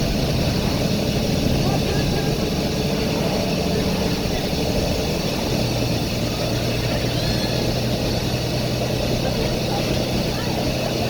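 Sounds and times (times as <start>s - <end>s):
bus diesel engine drone: 0.0s - 11.0s.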